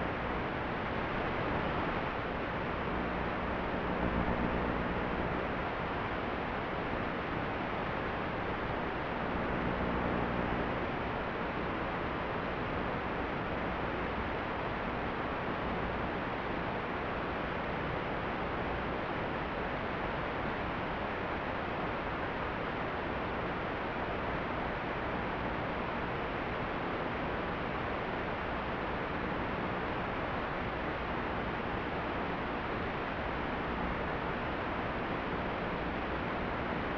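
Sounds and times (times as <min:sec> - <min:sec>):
static hiss: 0:00.0 - 0:36.9.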